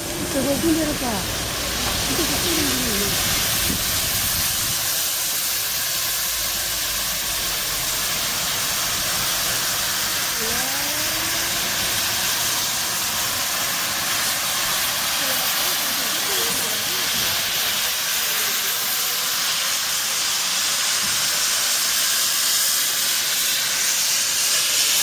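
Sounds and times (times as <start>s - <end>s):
steam locomotive hissing: 0.0s - 25.0s.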